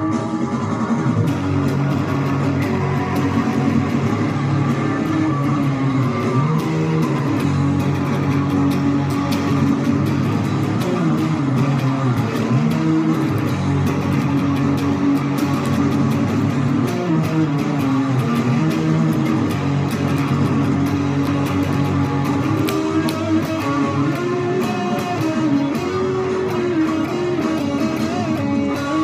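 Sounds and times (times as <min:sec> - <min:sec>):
band music from tv: 0:00.0 - 0:29.0
electric guitar strummed: 0:00.0 - 0:29.0
steady drum beat: 0:00.0 - 0:29.0.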